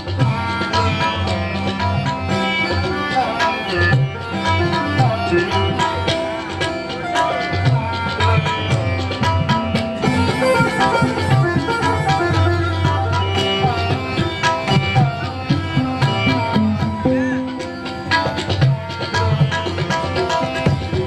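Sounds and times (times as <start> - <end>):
keyboard melodic lead: 0.0 - 21.0
tabla-style percussion: 0.0 - 21.0.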